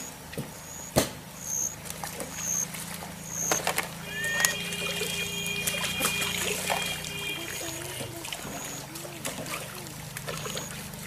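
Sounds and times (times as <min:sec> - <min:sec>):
water splashing: 0:01.2 - 0:11.0.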